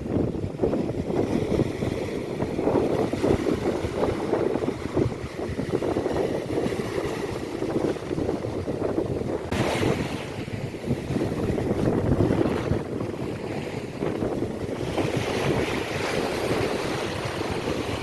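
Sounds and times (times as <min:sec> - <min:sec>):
sea waves on a beach: 0:00.0 - 0:18.0
wind buffeting microphone: 0:00.0 - 0:18.0.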